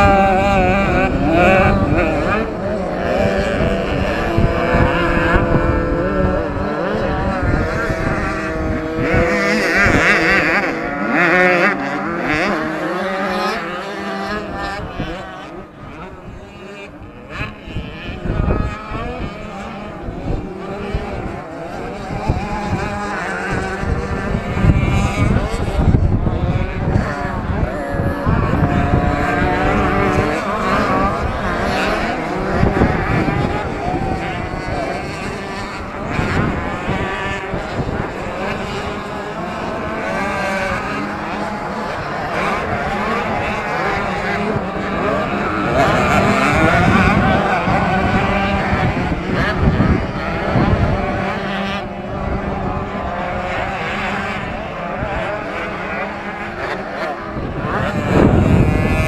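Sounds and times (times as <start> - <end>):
motocross bike engines revving: 0.0 - 59.0
wind buffeting microphone: 0.0 - 59.0.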